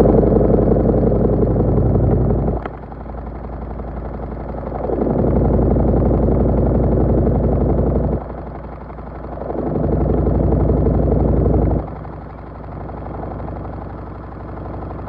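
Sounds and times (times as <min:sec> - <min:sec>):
washing machine motor running: 0:00.0 - 0:15.0.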